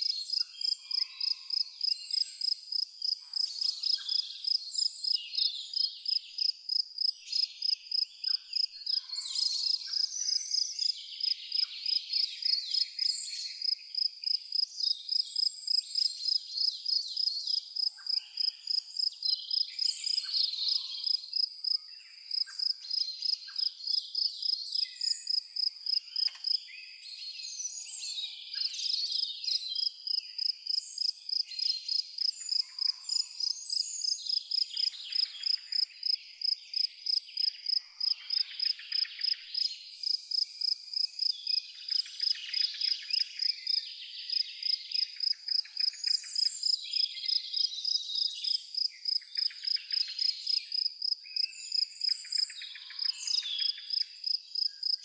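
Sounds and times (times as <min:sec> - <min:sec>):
cricket chirping: 0:00.3 - 0:27.4, 0:28.5 - 0:55.0.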